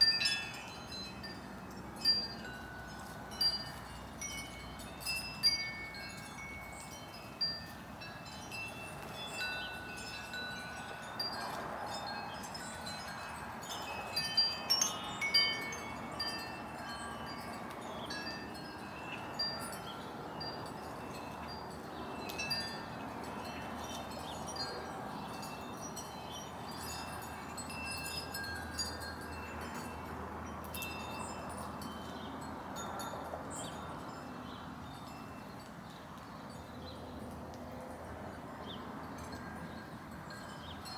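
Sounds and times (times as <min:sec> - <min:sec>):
wind chimes ringing: 0:00.0 - 0:35.8, 0:38.6 - 0:40.9.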